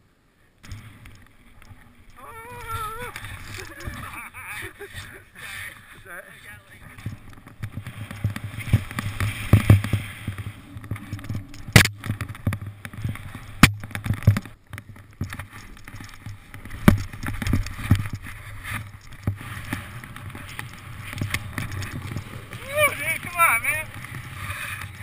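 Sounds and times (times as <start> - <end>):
muffled rumble of skiing: 0.0 - 25.0
sliding over snow: 0.6 - 25.0.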